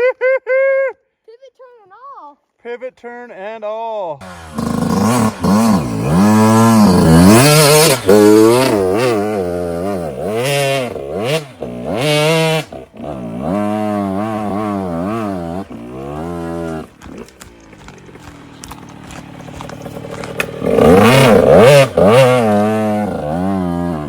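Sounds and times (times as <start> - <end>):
dirt bike engine revving: 4.2 - 24.0.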